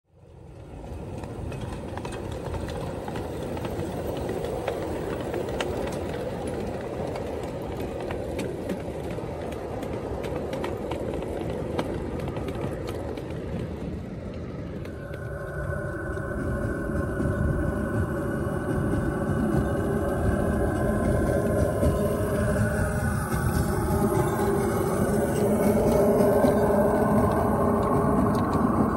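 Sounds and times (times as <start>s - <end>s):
miniature train rumbling on steel track: 0.1s - 28.9s.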